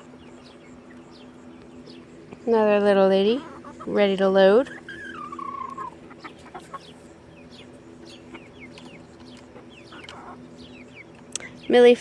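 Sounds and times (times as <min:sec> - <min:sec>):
chickens clucking: 0:00.0 - 0:12.0
high chick peeps: 0:00.0 - 0:12.0.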